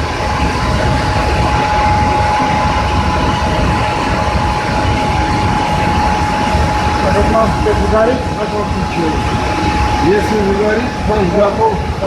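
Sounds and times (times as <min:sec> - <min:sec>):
constant high whine: 0:00.0 - 0:12.0
press motor and flywheel rumble: 0:00.0 - 0:12.0.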